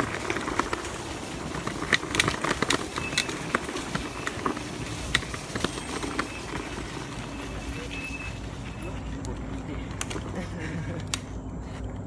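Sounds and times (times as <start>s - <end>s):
scooter frame rattling and knocking: 0.0s - 11.1s
wind: 0.0s - 12.0s.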